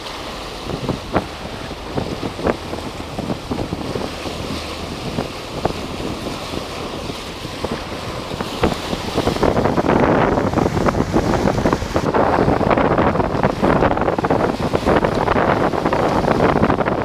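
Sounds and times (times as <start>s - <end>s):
water washing along hull: 0.0s - 17.0s
wind buffeting microphone: 0.0s - 17.0s.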